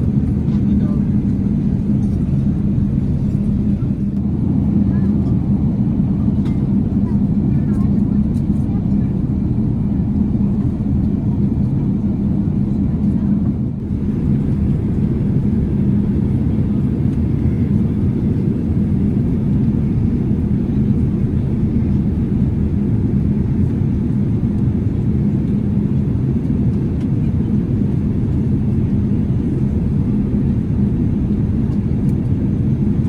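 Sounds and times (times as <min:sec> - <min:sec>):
airliner engine rumble: 0:00.0 - 0:33.0.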